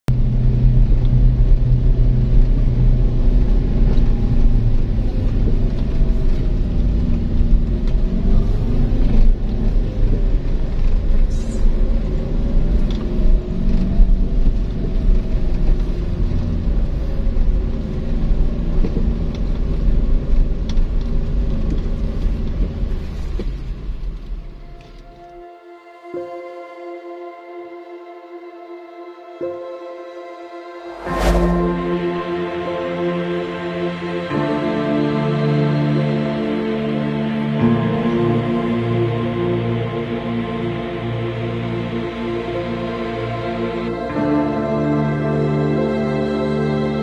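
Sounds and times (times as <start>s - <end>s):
car engine and road noise: 0.1s - 25.5s, 28.6s - 43.3s.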